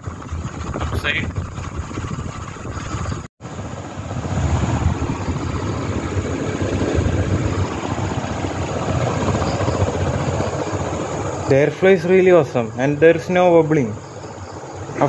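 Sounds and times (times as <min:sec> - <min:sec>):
ceiling fan rushing air: 0:00.0 - 0:15.0.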